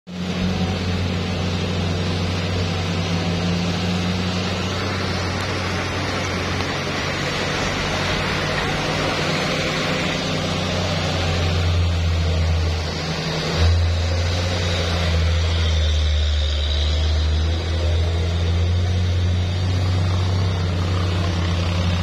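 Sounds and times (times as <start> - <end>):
road and wind noise: 0.1 - 22.0
vehicle engine running: 0.1 - 22.0.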